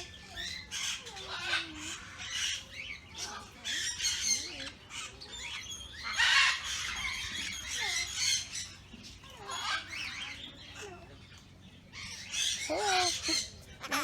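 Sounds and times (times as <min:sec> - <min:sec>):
birds squawking and chirping: 0:00.0 - 0:14.0.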